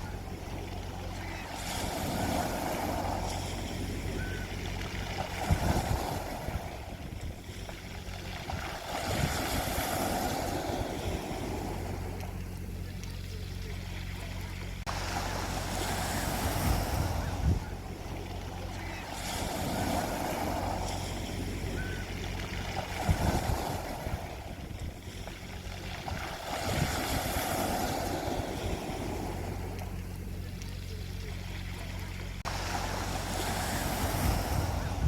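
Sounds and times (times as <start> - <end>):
sea waves breaking on a beach: 0.0 - 35.0
steady low hum: 0.0 - 35.0.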